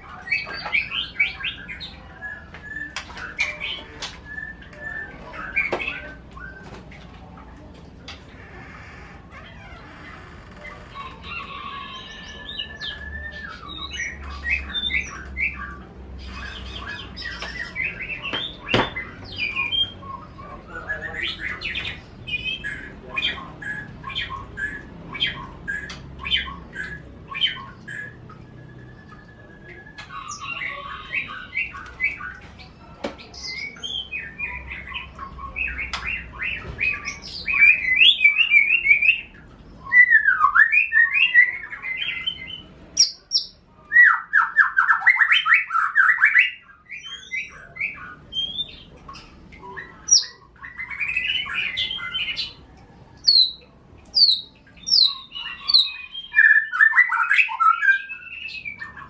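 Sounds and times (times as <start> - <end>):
songbirds singing trills: 0.0 - 59.0.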